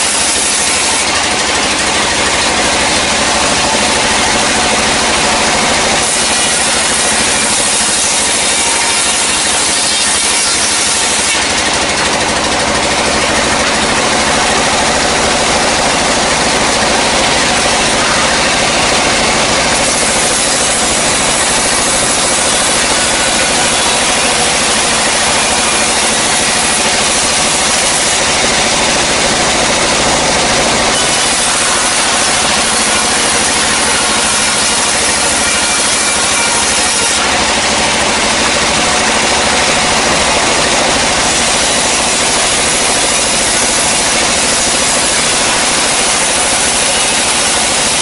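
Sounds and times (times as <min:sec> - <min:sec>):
band saw cutting timber: 0:00.0 - 0:48.0.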